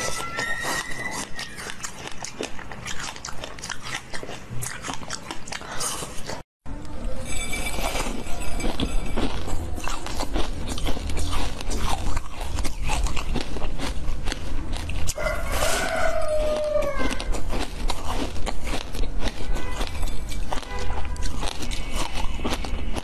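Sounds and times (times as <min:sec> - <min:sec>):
pastry being bitten and chewed: 0:00.0 - 0:06.5, 0:07.7 - 0:23.0.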